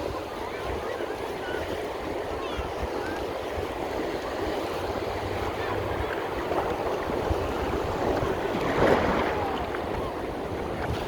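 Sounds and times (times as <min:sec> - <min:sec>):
ocean surf in shallow water: 0:00.0 - 0:11.0
wind rumble on microphone: 0:00.0 - 0:11.0
wave breaking: 0:00.2 - 0:11.0.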